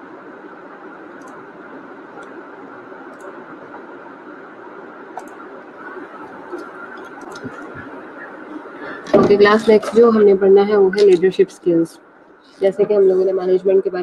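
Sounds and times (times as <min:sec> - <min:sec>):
microphone background hiss: 0:00.0 - 0:14.0.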